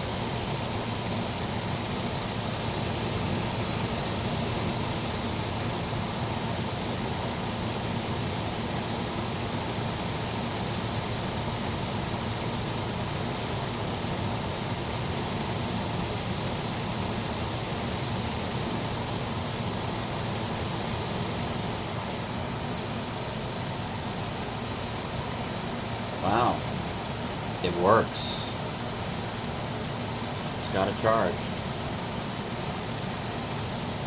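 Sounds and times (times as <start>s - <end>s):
compressor humming: 0.0s - 34.0s
dehumidifier fan blowing air: 0.0s - 34.0s.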